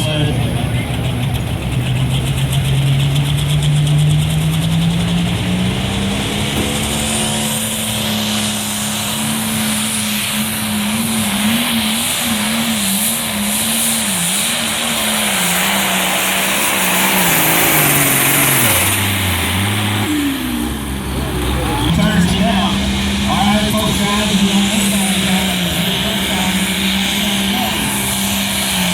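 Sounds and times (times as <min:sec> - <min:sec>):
engine at high revs under load: 0:00.0 - 0:28.9.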